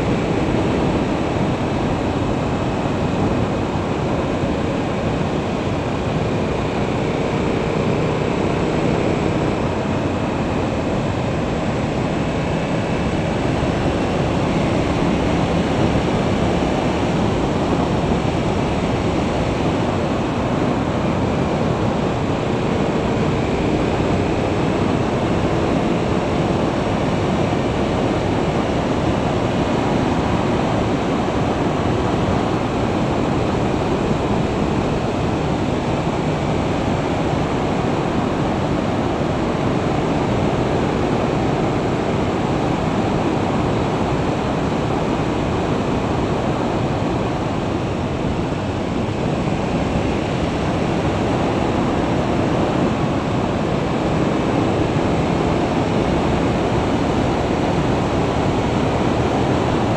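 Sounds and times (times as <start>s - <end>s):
rushing wind noise: 0.0s - 59.9s.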